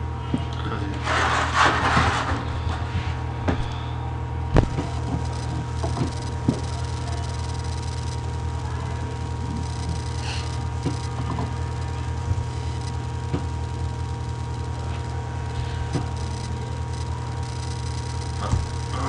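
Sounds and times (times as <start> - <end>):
electrical hum: 0.0 - 19.0
faint high whine: 2.4 - 19.0.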